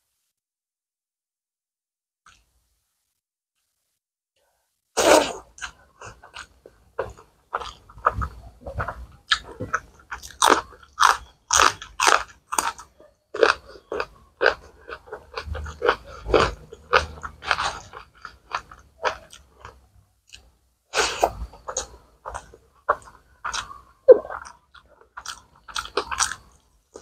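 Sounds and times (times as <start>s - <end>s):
crunching and chewing food: 5.1s - 27.0s.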